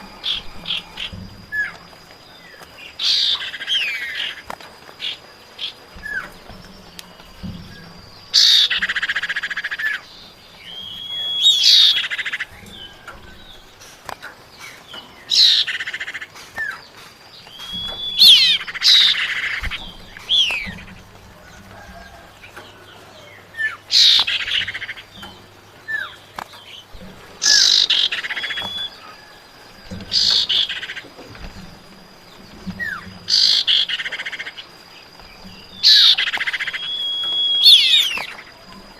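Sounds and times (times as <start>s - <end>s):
bird calling: 0.0s - 38.9s.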